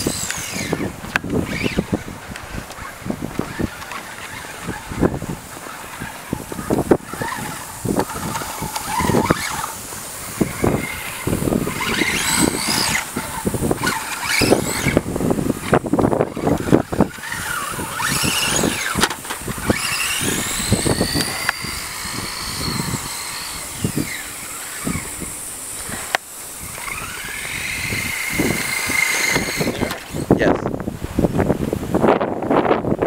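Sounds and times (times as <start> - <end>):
tyres skidding on concrete: 0.0 - 30.3
rc car motor whining: 0.0 - 30.5.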